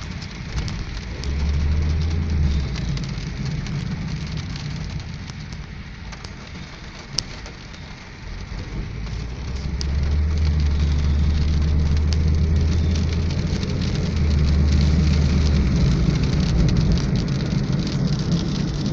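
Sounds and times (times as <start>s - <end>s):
engine and tyre rumble: 0.0s - 18.9s
rain on a moving car: 0.0s - 18.9s.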